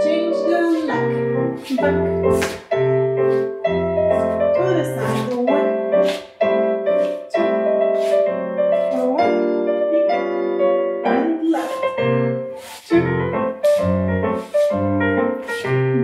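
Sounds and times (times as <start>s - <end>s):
piano chords in steady beat: 0.0s - 16.0s.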